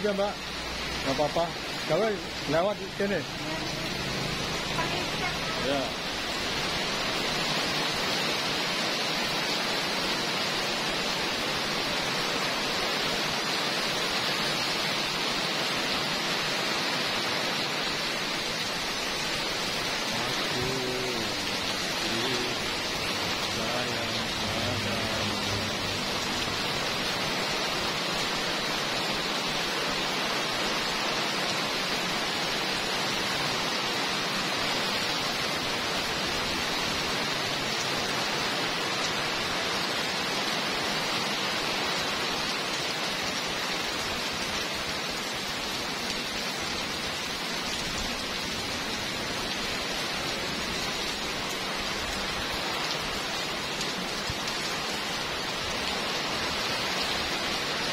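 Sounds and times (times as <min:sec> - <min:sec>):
heavy rain on pavement: 0:00.0 - 0:57.9.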